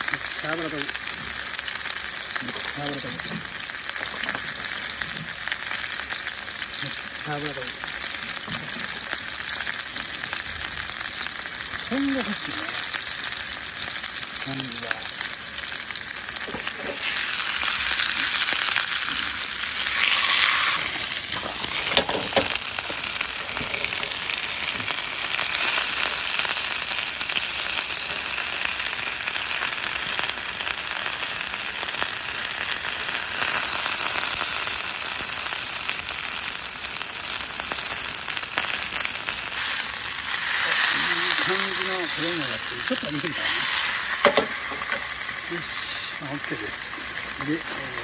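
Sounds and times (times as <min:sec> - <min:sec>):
steak sizzling in a hot pan: 0:00.0 - 0:48.0.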